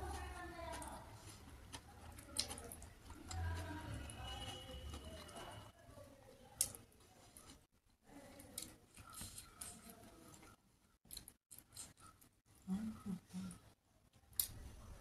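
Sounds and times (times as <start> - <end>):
chewing and eating by hand: 0.0 - 15.0.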